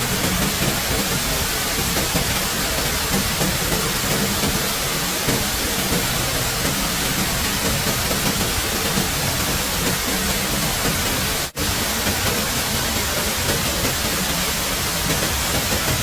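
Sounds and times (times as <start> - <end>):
rushing hiss of water: 0.0 - 16.0.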